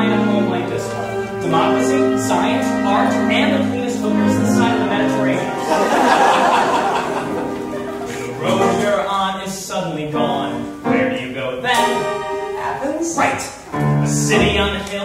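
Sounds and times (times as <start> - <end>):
small pit orchestra: 0.0 - 15.0.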